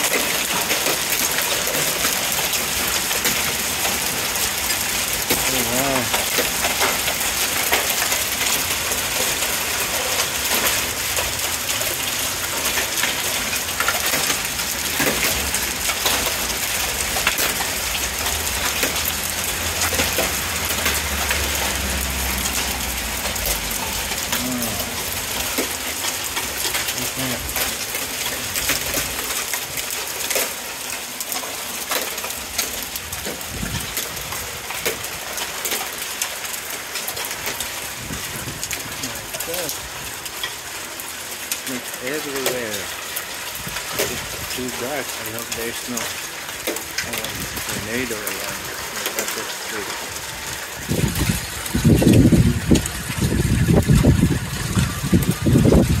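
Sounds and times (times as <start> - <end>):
hail clattering on pavement: 0.0 - 56.0.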